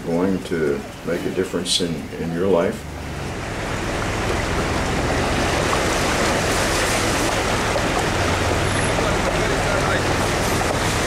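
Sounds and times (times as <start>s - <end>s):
floodwater splashing around tyre: 0.0s - 11.0s
low engine hum: 0.0s - 11.0s.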